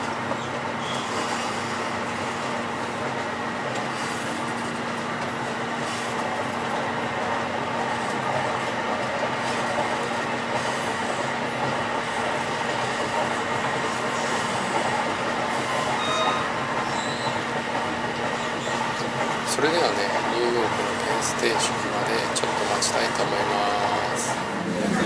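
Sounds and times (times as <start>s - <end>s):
train running noise: 0.0s - 25.0s.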